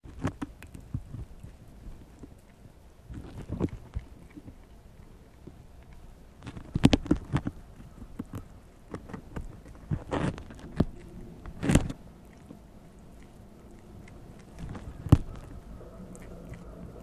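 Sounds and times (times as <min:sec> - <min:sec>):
prairie dog gnawing corn husk: 0:00.0 - 0:17.0.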